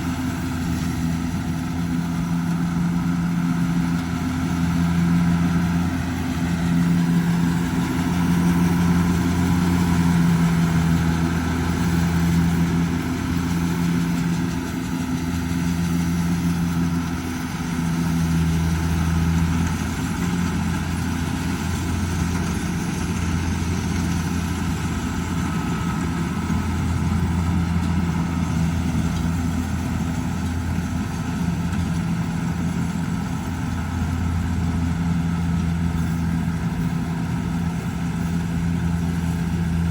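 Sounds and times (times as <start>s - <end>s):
combine harvester diesel engine running: 0.0s - 39.9s.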